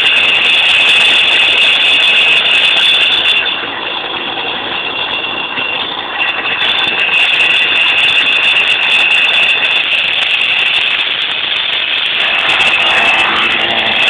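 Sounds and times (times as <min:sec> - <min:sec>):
car engine running: 0:00.0 - 0:14.0
high rattle: 0:00.0 - 0:14.0.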